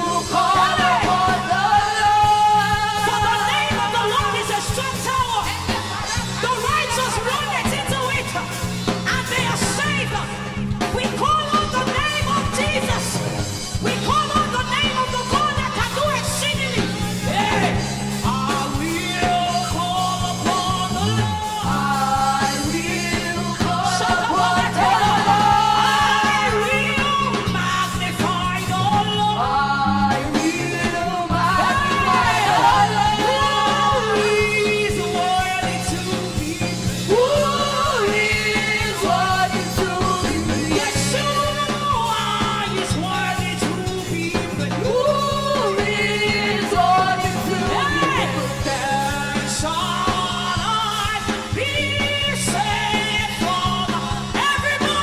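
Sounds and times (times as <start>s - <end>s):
live band playing: 0.0s - 55.0s
steady bass line: 0.0s - 55.0s
woman singing gospel: 0.0s - 55.0s.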